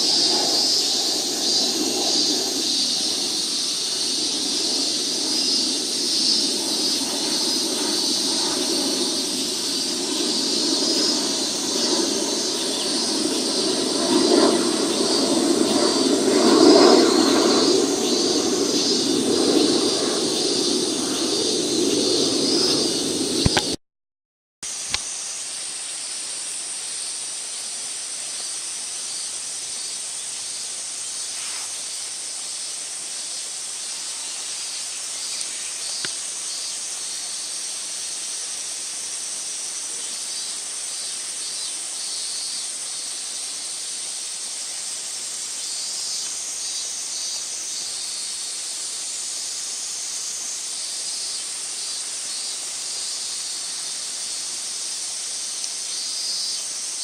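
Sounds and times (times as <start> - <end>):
insects chirping: 0.0 - 23.8, 24.7 - 57.0.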